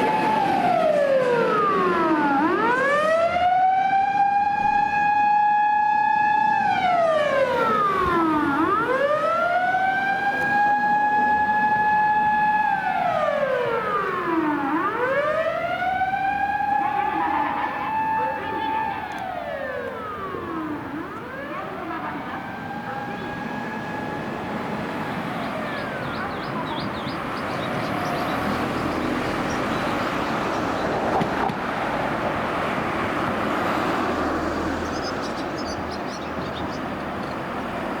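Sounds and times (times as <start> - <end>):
fire truck siren wailing: 0.0 - 38.0
road traffic rushing: 0.0 - 38.0.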